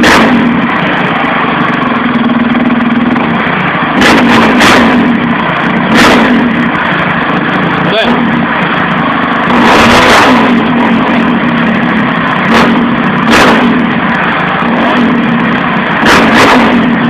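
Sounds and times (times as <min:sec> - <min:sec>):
motorcycle engine idling: 0:00.0 - 0:09.6, 0:10.6 - 0:16.0
motorcycle engine revving: 0:00.0 - 0:17.0.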